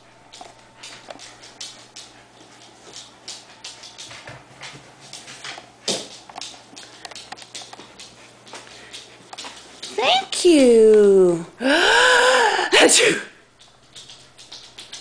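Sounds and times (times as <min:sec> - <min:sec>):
dog claws clicking on hardwood floor: 0:00.2 - 0:11.1, 0:13.6 - 0:15.0.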